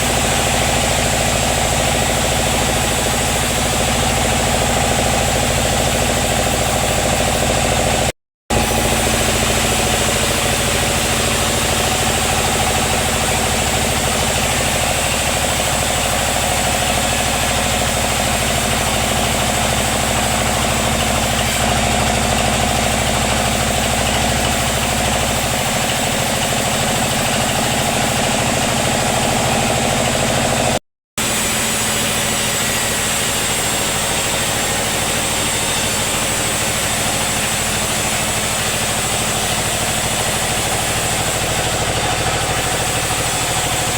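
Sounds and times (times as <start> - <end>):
sawmill machinery humming: 0.0 - 43.9.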